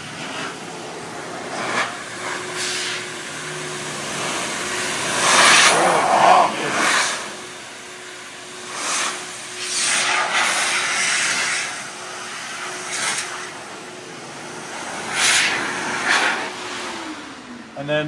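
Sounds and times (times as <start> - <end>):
car wash air dryer blowing: 0.0 - 18.0
steady hum: 0.0 - 18.0.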